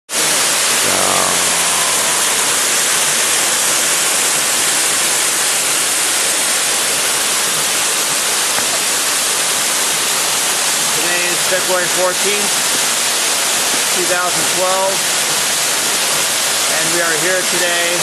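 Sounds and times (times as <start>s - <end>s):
waterfall rushing: 0.2s - 18.0s.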